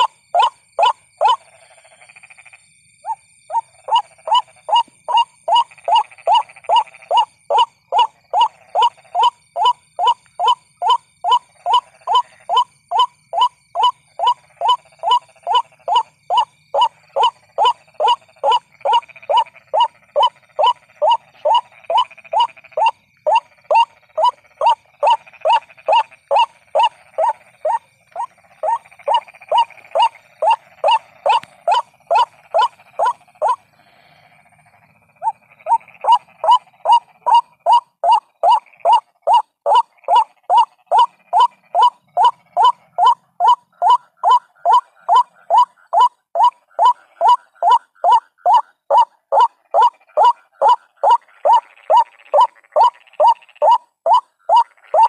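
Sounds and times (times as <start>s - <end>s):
waterhen calling: 0.0s - 1.4s, 3.0s - 55.0s.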